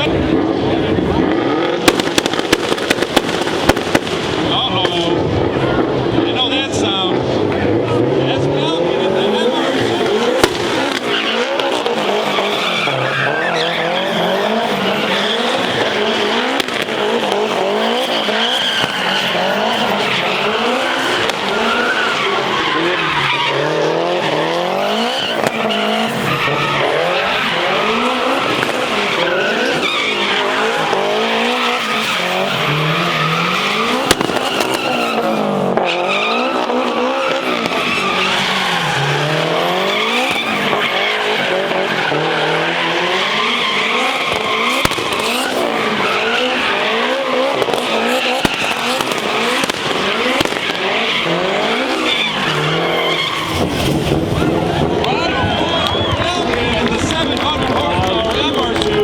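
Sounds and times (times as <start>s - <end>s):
engine revving: 0.0s - 59.0s
tyres squealing: 9.0s - 59.0s.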